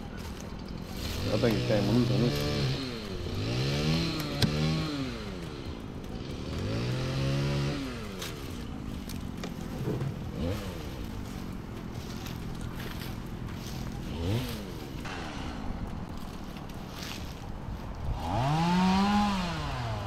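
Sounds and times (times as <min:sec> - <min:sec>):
engine revving: 0:00.6 - 0:20.0.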